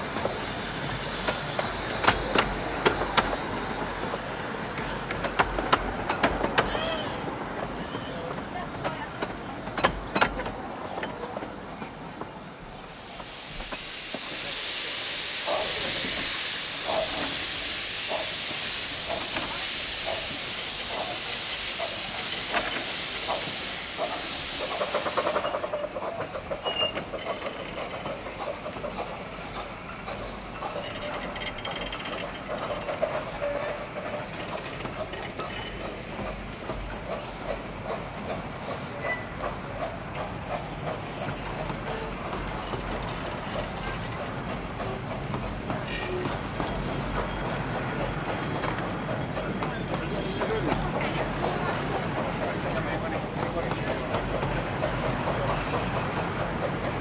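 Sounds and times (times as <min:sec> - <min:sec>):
coaches running over rails: 0:00.0 - 0:57.0
steam hissing: 0:00.0 - 0:57.0
steam locomotive exhaust beats: 0:00.0 - 0:57.0.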